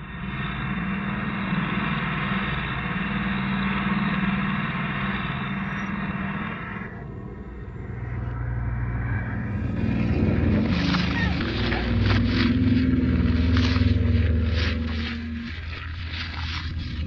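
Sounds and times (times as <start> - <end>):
low engine-like drone: 0.0 - 17.0.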